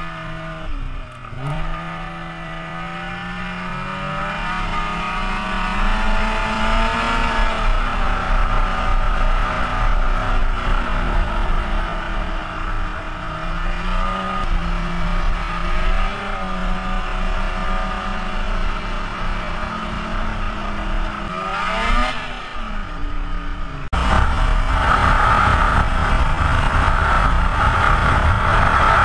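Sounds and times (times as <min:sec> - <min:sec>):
snowmobile engine running: 0:00.0 - 0:29.0
wind rumble on microphone: 0:00.0 - 0:29.0.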